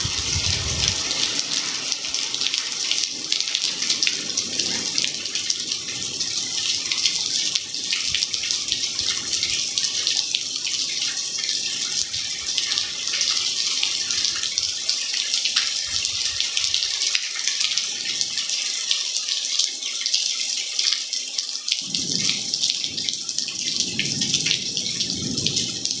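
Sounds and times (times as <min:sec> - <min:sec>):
rain pattering on cement: 0:00.0 - 0:26.0.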